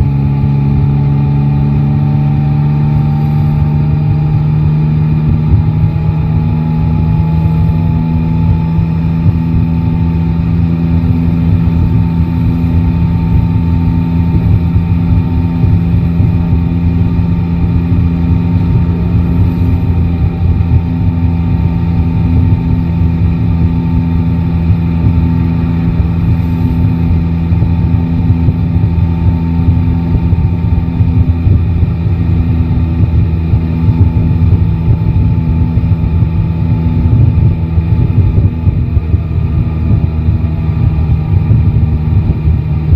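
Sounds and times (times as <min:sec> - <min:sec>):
motorcycle engine cruising: 0:00.0 - 0:42.9
wind rumble on microphone: 0:00.0 - 0:42.9.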